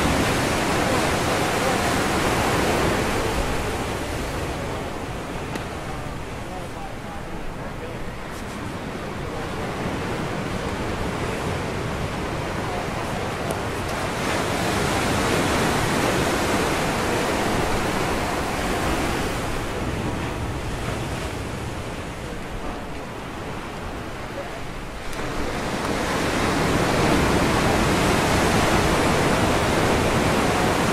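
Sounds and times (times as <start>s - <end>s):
surf breaking on rocks: 0.0s - 6.4s, 9.6s - 30.9s.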